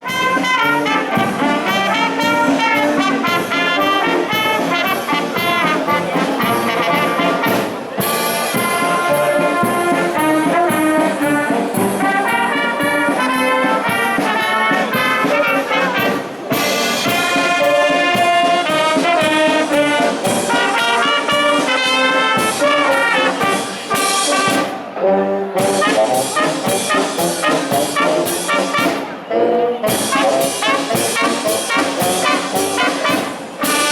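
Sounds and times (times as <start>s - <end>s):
brass band playing march: 0.0s - 33.9s.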